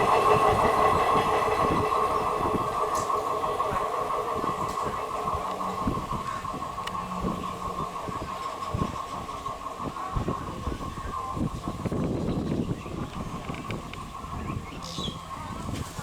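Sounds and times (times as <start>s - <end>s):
train wheels knocking over rail joints: 0.0s - 16.0s.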